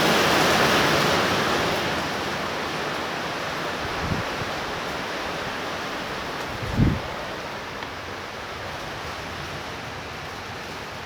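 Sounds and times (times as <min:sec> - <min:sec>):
torrential rain: 0:00.0 - 0:11.0.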